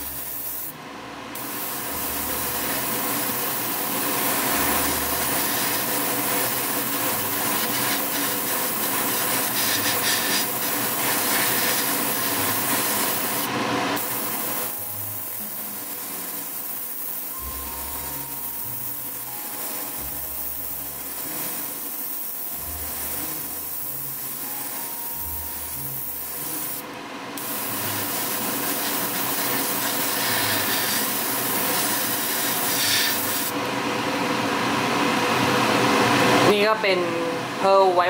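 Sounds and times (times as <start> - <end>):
extraction fan rushing air: 0.0 - 37.8.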